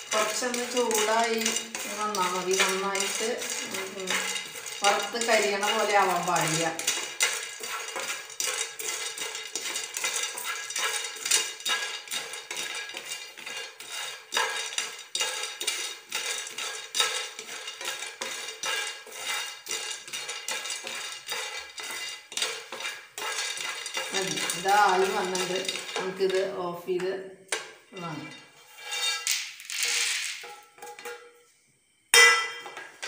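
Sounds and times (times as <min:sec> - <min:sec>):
peanuts rattling in frying pan: 0:00.0 - 0:31.2.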